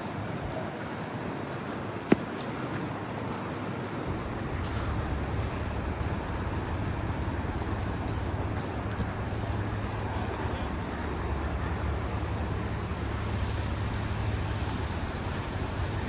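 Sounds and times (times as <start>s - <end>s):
city street traffic: 0.0s - 16.0s
vehicle engine rumble: 1.2s - 16.0s.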